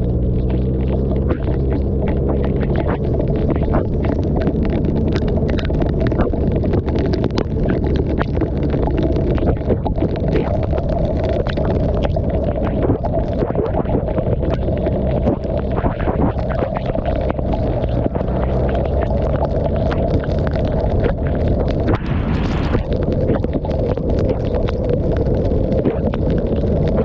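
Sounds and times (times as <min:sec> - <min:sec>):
rain ticking on camera: 0:00.0 - 0:27.0
wind noise on microphone: 0:00.0 - 0:27.0.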